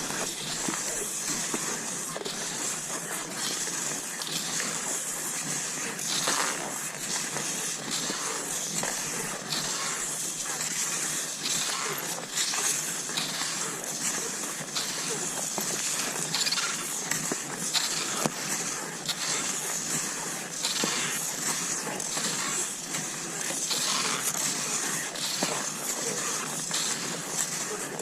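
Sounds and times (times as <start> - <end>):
skis swishing over snow: 0.0 - 28.0.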